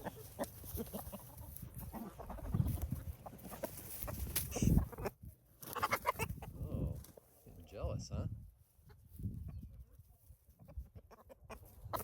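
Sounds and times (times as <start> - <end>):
chickens clucking: 0.0 - 7.8, 8.6 - 12.0.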